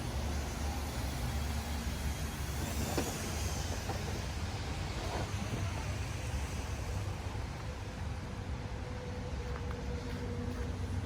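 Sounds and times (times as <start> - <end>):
city street rumble and hiss: 0.0 - 11.0.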